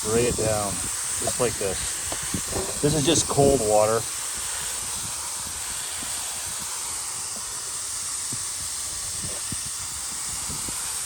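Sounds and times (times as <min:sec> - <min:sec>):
garden hose spraying water: 0:00.0 - 0:11.0.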